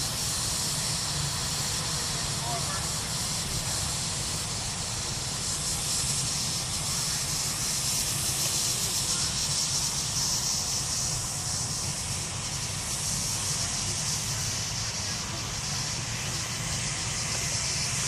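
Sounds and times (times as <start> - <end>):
steam locomotive hissing: 0.0 - 18.0.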